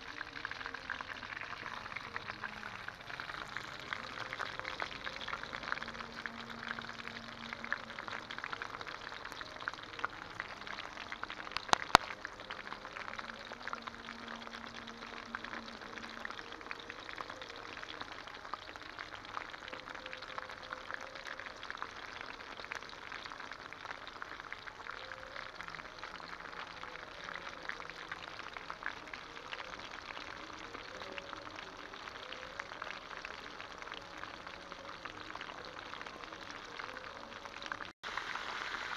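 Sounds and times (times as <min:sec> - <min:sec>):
pork sizzling in frying: 0:00.0 - 0:38.9.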